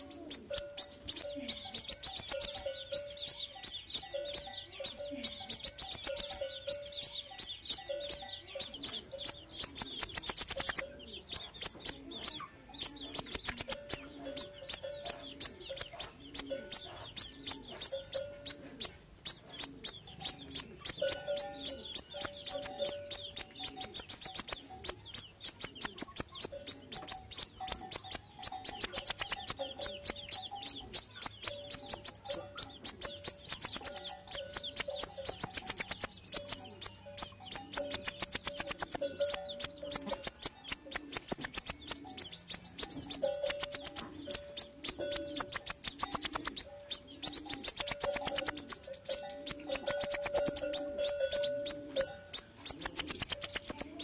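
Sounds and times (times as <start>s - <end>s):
lower steady bird notes: 0.0s - 54.0s.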